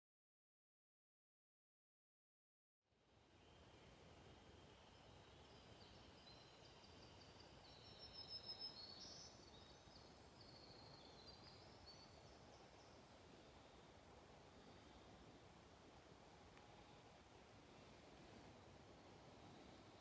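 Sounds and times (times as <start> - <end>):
faint high bird song: 3.2 - 20.0.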